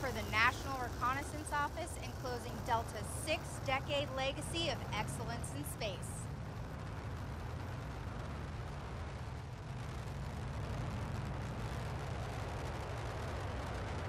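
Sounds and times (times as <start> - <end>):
rocket engines roaring: 0.0 - 14.0.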